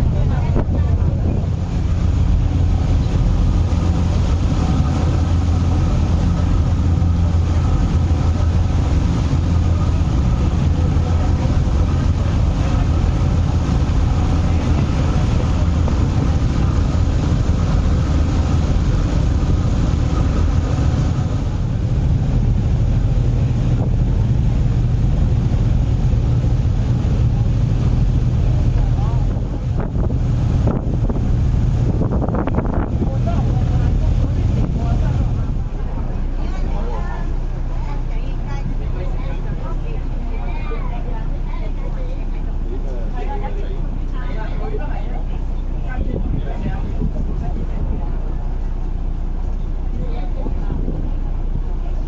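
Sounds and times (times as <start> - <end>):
wind on microphone: 0.0 - 40.3, 45.2 - 52.0
diesel engine droning: 0.0 - 52.0
rush of boat wake: 0.0 - 52.0.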